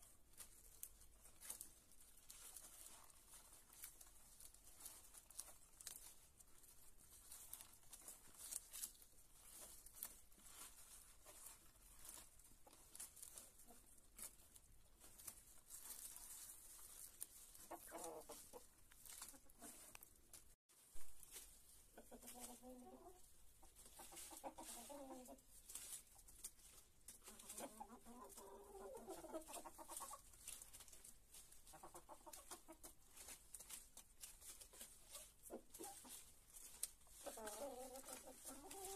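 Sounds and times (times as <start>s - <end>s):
beaks pecking at leafy greens: 0.0s - 38.9s
hens clucking: 2.4s - 20.1s, 21.3s - 38.9s.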